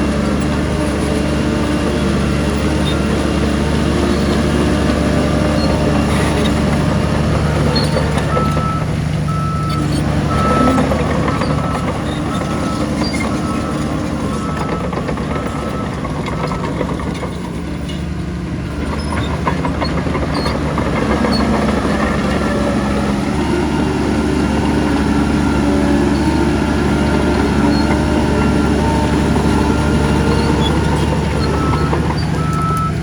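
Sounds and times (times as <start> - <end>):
heavy diesel machinery engine drone: 0.0 - 33.0.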